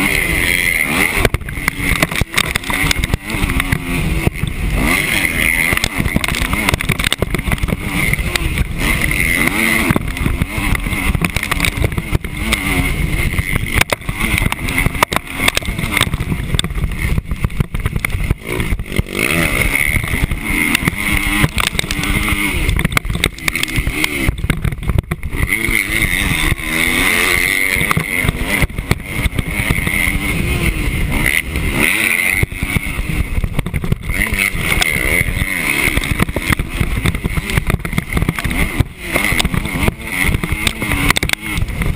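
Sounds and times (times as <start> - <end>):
motocross bike engine revving: 0.0 - 41.9
wind rumble on microphone: 0.0 - 41.9.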